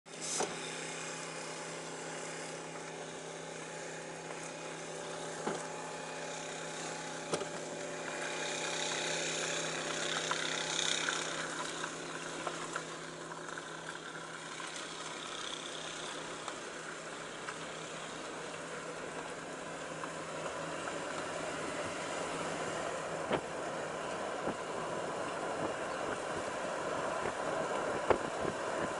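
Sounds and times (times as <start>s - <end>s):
water pump motors humming: 0.1s - 28.9s.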